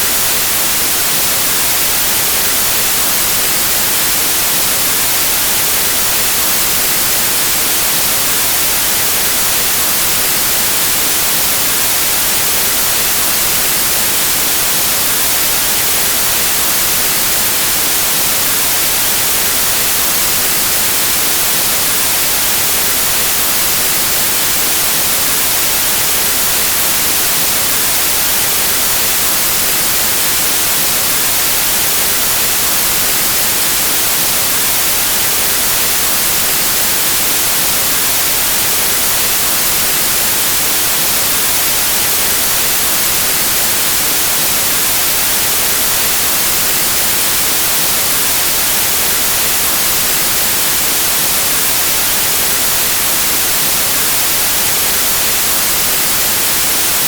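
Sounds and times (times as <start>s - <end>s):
white noise static hiss: 0.0s - 57.0s.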